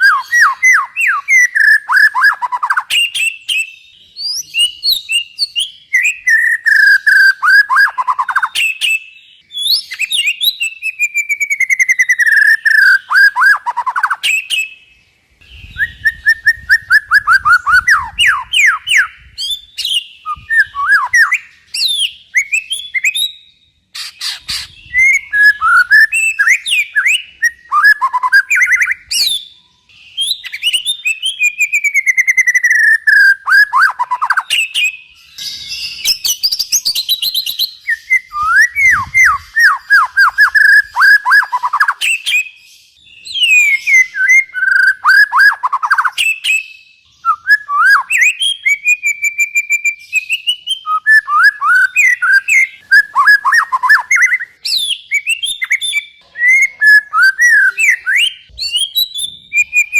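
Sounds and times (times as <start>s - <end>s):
songbird whistling and trilling: 0.0s - 59.9s.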